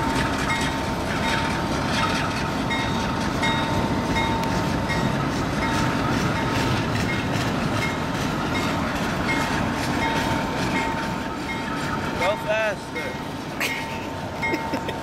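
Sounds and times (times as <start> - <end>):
steel wheels rumbling on rail: 0.0 - 15.0
wheels clicking over rail joints: 0.0 - 15.0.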